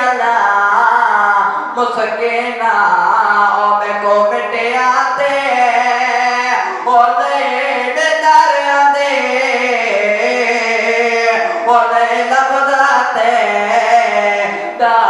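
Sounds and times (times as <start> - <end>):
young man chanting a lament: 0.0 - 15.0.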